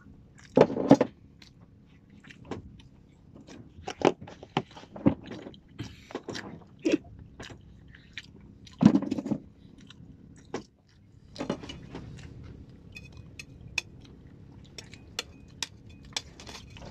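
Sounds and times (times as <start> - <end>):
man chewing: 0.4 - 0.6, 1.4 - 16.9.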